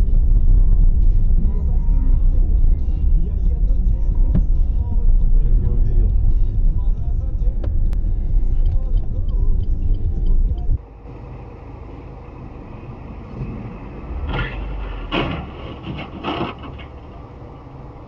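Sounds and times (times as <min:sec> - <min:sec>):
heavy road rumble: 0:00.0 - 0:18.0
traffic noise: 0:00.0 - 0:18.0.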